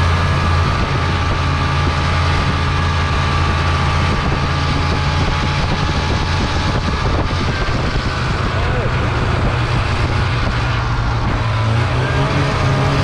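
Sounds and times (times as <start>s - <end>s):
snowmobile engine droning: 0.0s - 13.0s.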